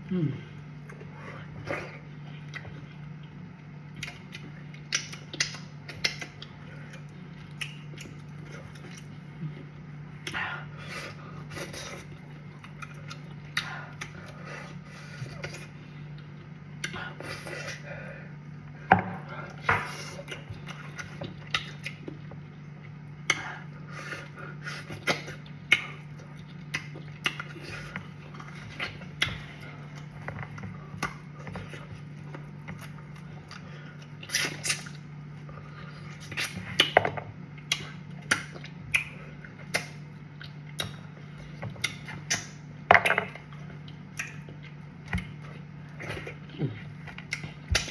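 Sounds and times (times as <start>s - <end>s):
steady low hum: 0.0s - 47.9s
chewing: 0.8s - 18.0s, 19.2s - 47.9s.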